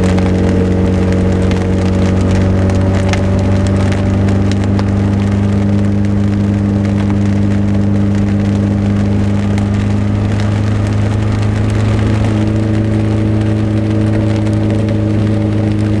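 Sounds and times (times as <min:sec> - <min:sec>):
car engine droning: 0:00.0 - 0:16.0
rain drops pattering: 0:00.0 - 0:16.0.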